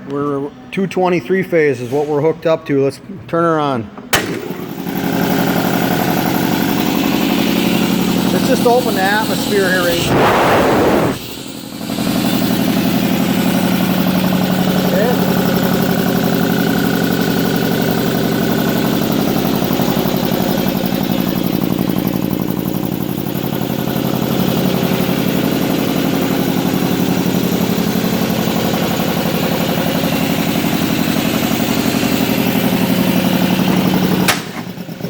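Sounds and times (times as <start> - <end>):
air compressor chugging: 4.1 - 35.0.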